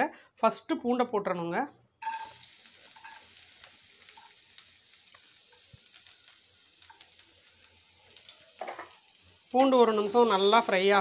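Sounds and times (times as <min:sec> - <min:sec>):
garlic sizzling in oil: 0:02.0 - 0:11.0.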